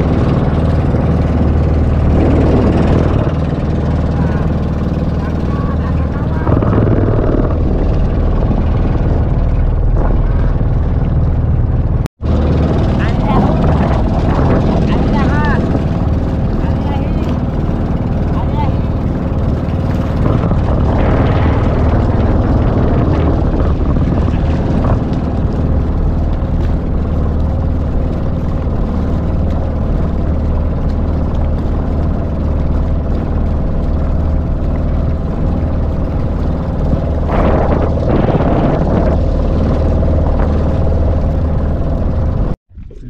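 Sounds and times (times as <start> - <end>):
water rushing: 0.0 - 42.6
boat engine droning: 0.0 - 43.0.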